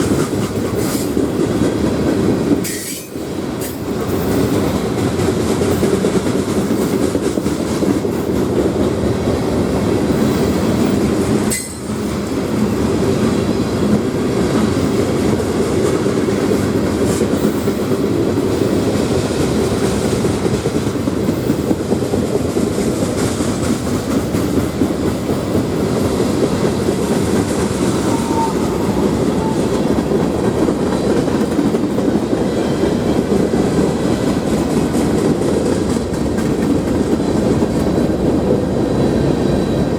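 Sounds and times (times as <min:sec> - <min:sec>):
freight train cars rolling: 0:00.0 - 0:39.9.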